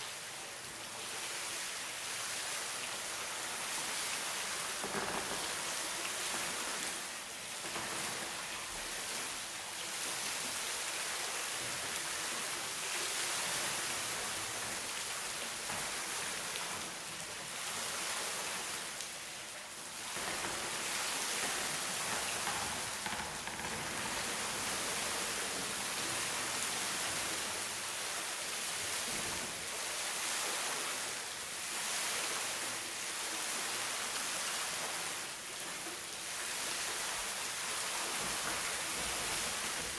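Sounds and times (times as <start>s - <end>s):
falling rain: 0.0s - 39.9s
flowing water: 0.0s - 39.9s.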